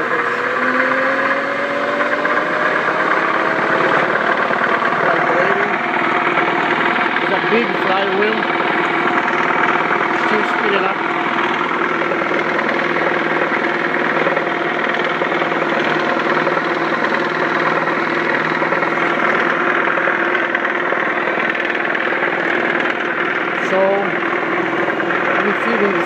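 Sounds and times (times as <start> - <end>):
electric motor and generator running: 0.0 - 26.0.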